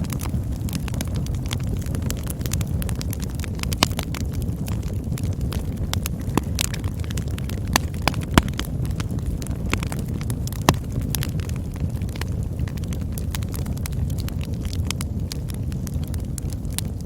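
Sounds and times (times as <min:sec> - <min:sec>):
campfire flames rumbling: 0:00.0 - 0:17.0
fire crackles and pops: 0:00.0 - 0:17.0.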